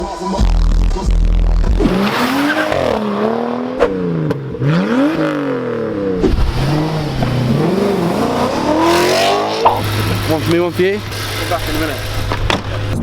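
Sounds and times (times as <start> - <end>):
car engine revving: 0.7 - 13.0.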